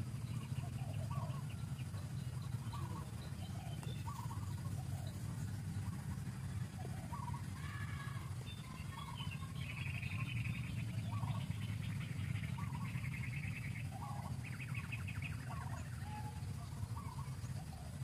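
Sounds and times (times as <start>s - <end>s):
birds chirping and trilling: 0.0s - 18.0s
steady low rumble: 0.0s - 18.0s.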